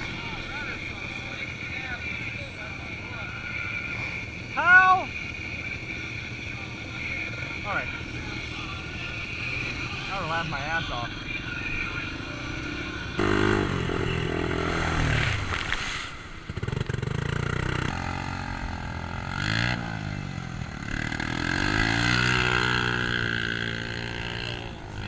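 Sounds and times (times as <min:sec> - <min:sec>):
atv engines revving: 0:00.0 - 0:25.0.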